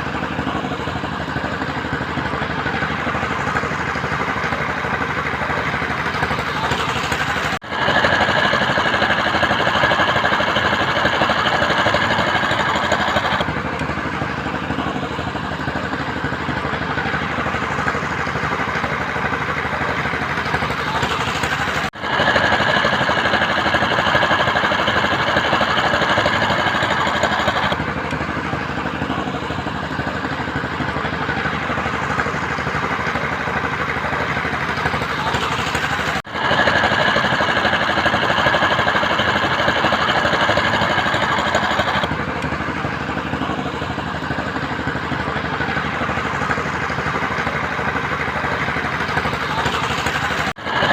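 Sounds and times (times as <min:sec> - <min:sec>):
construction machinery engine: 0:00.0 - 0:50.9
mechanical clatter: 0:00.0 - 0:50.9.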